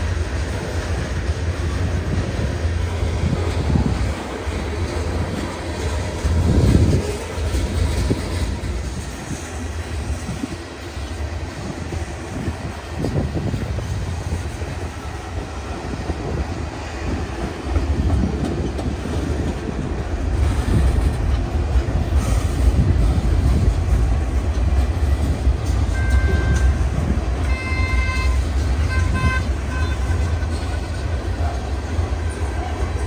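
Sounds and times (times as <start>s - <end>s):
freight cars rumbling on rails: 0.0s - 33.0s.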